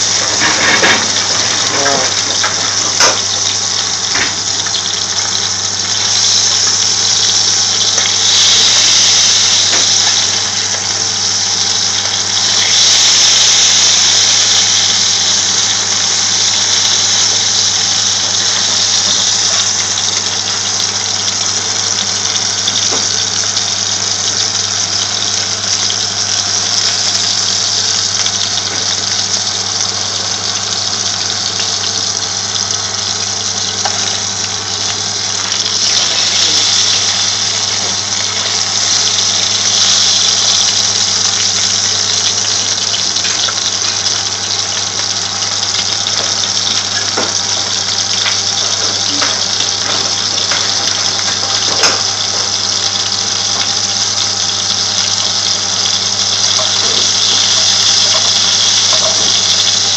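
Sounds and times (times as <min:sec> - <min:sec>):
patties sizzling in oil: 0:00.0 - 0:59.9.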